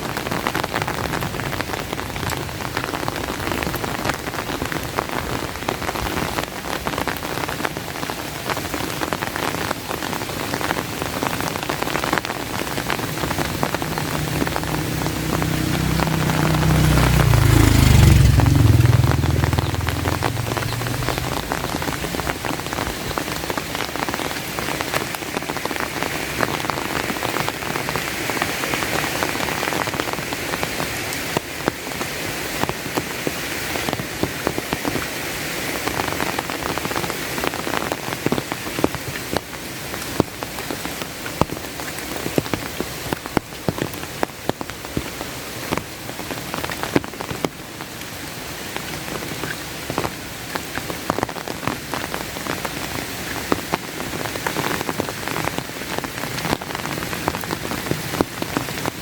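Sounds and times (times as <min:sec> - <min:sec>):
raindrops striking close by: 0:00.0 - 0:59.0
steady rain hiss: 0:00.0 - 0:59.0.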